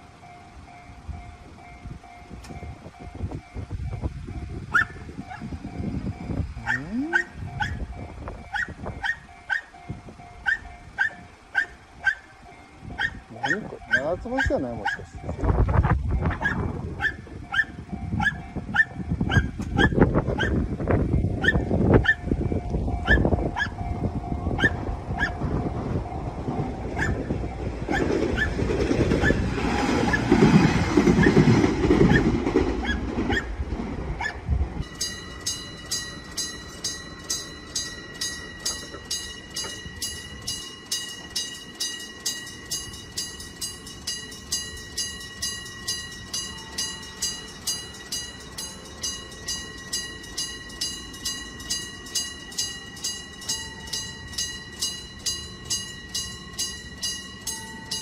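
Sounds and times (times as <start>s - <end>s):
railroad crossing bell ringing: 0.0s - 58.0s
train rumbling with wheel clatter: 0.0s - 58.0s.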